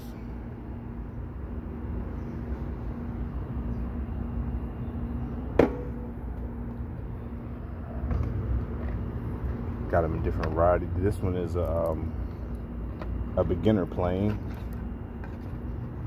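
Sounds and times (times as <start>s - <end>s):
faint constant hum: 0.0s - 16.0s
outdoor background rumble: 0.0s - 16.0s.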